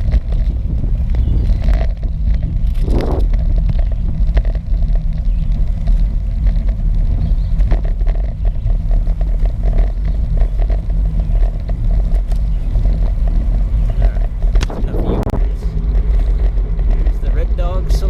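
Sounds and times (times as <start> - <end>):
bicycle tyre noise on road: 0.0 - 18.0
wind buffeting microphone: 0.0 - 18.0.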